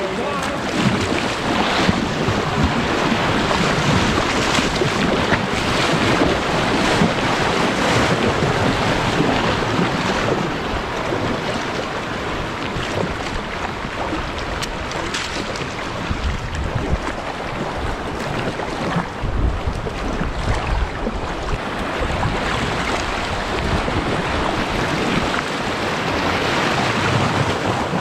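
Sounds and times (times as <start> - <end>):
paddle strokes: 0.0 - 28.0
river water rushing: 0.0 - 28.0
water slapping boat hull: 0.0 - 28.0.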